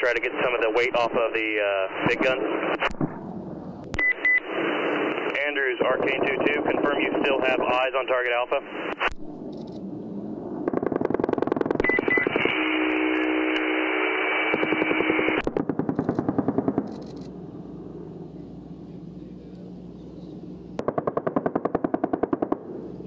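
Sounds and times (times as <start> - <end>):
hum: 0.0 - 23.0.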